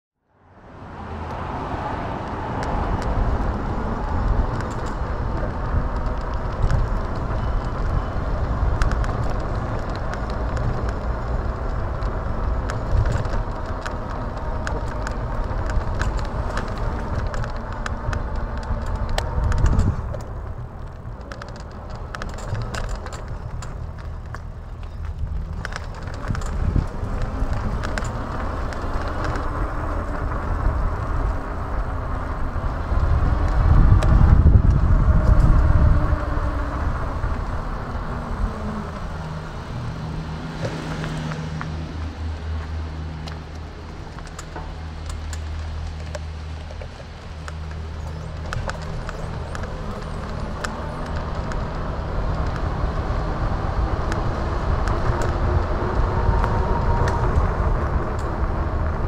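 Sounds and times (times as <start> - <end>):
wind rushing over microphone: 0.4 - 59.0
tyre rumble on tarmac: 1.4 - 59.0
small clicks and rattles: 2.2 - 59.0.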